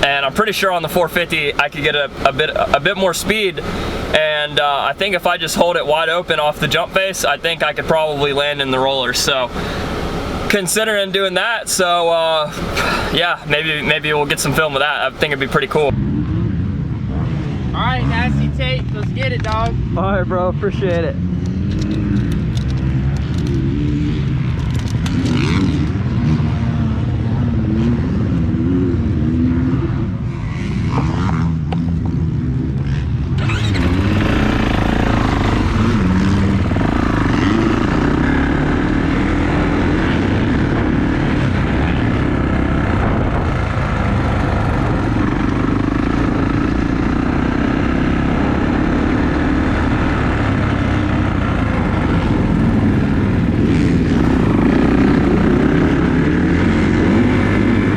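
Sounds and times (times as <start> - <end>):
dirt bike engine revving: 0.0 - 18.6, 19.6 - 57.9.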